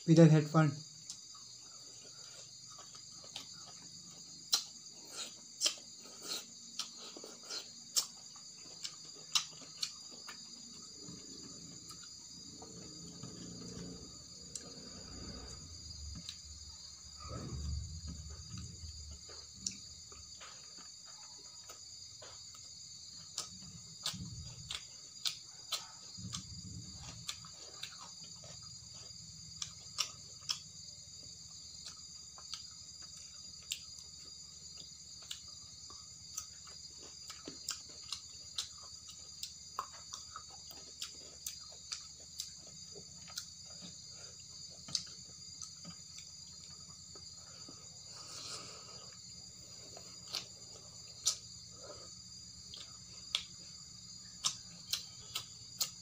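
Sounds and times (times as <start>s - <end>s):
insect chirring: 0.0s - 56.0s
crisp chewing and mouth smacks: 1.0s - 13.0s, 18.9s - 56.0s.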